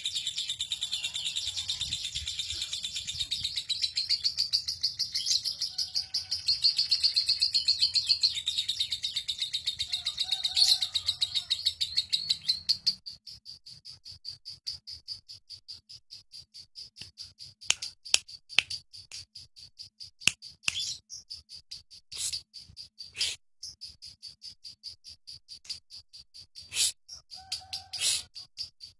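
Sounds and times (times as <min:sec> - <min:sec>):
lovebird chattering: 0:00.0 - 0:28.9
sharp bird chirps: 0:00.0 - 0:28.9.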